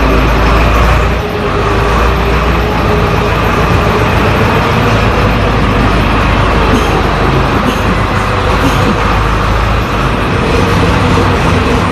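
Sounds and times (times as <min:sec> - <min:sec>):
diesel engine under load: 0:00.0 - 0:11.9.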